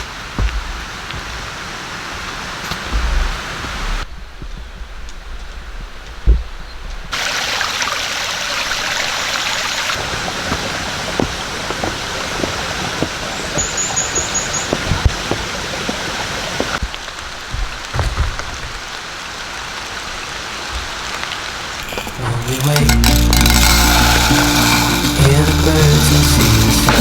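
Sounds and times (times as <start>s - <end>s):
raindrops tapping: 0.0s - 7.7s, 8.7s - 27.0s
steady rain: 0.0s - 22.3s.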